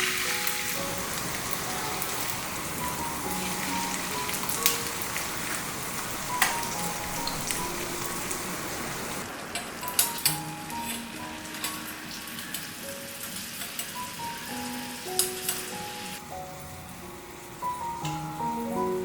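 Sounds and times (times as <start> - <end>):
sausage sizzling in oil: 0.0 - 19.0.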